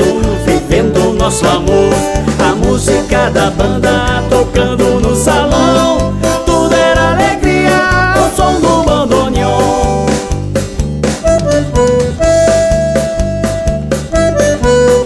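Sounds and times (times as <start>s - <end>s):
squeezebox melody: 0.0s - 15.0s
steady bass beat: 0.0s - 15.0s.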